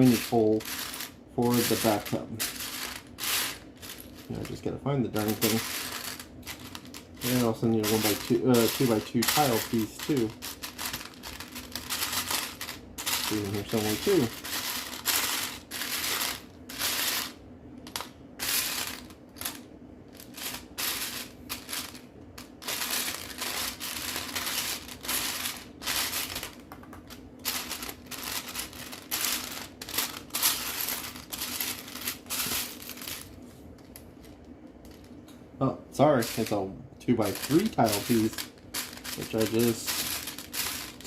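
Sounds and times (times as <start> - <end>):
plastic toy bricks clattering: 0.0 - 19.6, 22.6 - 33.3, 37.2 - 41.0
faint steady hum: 0.0 - 41.0.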